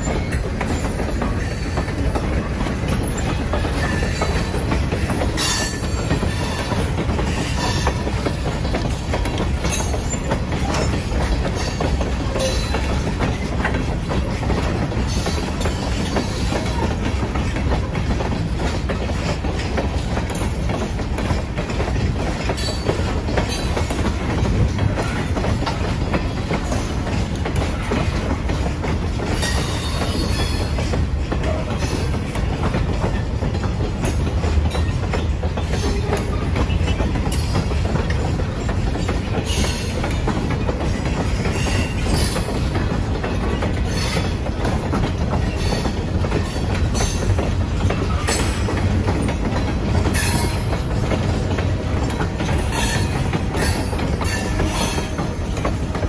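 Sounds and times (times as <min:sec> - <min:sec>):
clickety-clack over rail joints: 0:00.0 - 0:56.0
train wheels rumbling on rail: 0:00.0 - 0:56.0.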